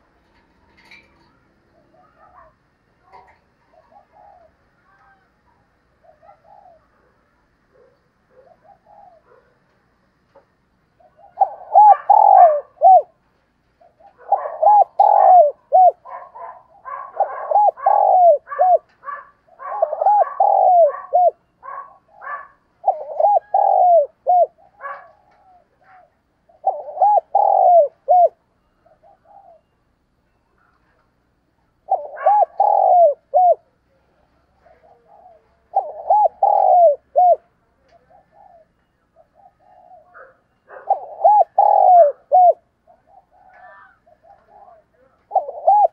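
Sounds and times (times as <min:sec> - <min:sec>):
dove cooing: 0:00.0 - 0:09.7, 0:11.0 - 0:29.8, 0:31.7 - 0:45.9.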